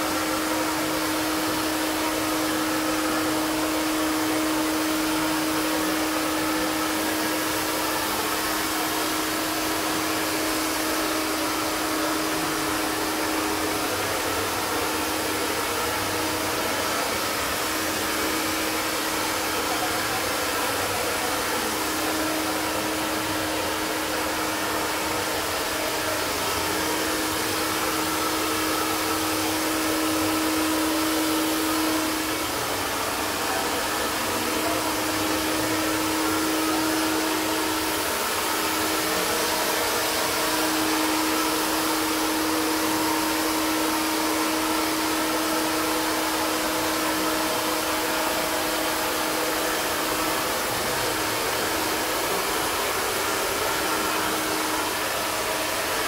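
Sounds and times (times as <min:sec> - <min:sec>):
handheld blower fan rush: 0:00.0 - 0:56.0.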